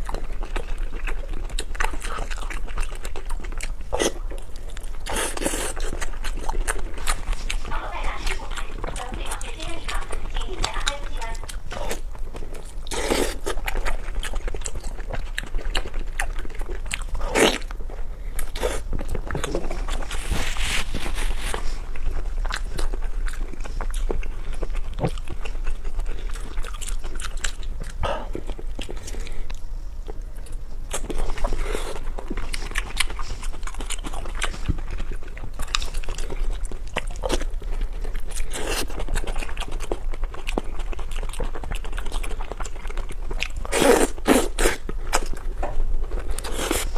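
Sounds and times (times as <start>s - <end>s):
biting and crunching: 0.0s - 46.9s
faint low hum: 0.0s - 46.9s
wet chewing: 0.0s - 46.9s.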